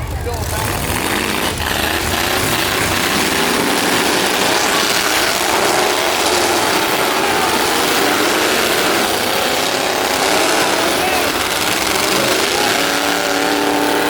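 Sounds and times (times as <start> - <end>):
rattling mechanical noise: 0.0 - 14.0
truck engines running loudly: 0.0 - 14.0.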